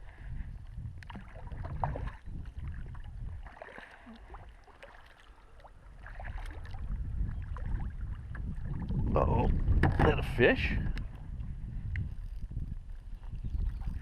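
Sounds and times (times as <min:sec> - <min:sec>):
wind rumble on microphone: 0:00.0 - 0:04.6, 0:05.7 - 0:14.0
water splashing against hull: 0:00.0 - 0:14.0.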